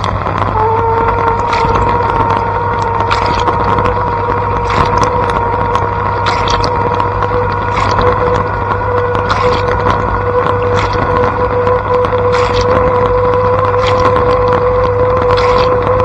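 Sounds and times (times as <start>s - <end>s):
dishwasher pump humming and whining: 0.0s - 16.0s
water spraying and splashing: 0.0s - 16.0s.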